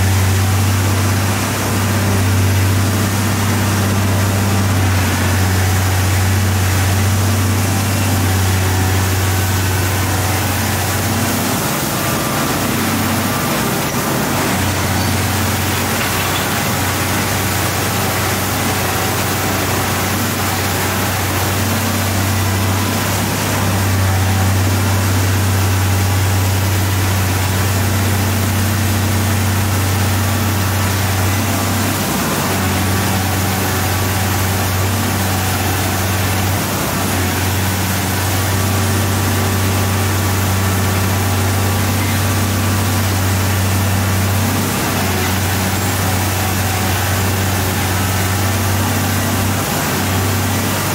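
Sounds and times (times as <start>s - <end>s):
excavator diesel engine humming: 0.0s - 50.9s.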